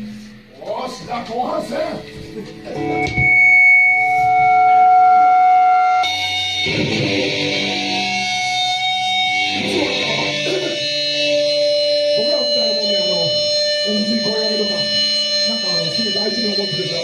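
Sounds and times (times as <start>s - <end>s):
electric guitar ringing: 1.3s - 17.0s.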